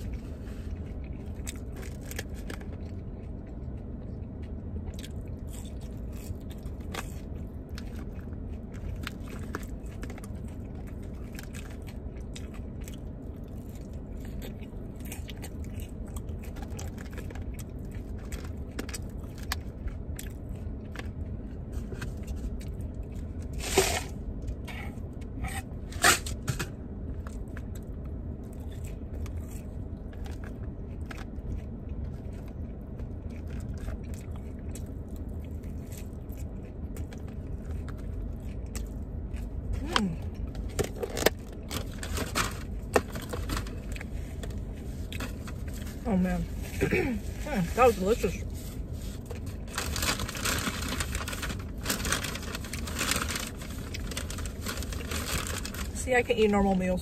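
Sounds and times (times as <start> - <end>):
chewing and mouth noises: 0.0 - 25.8, 26.8 - 56.0
low background rumble: 0.0 - 57.0.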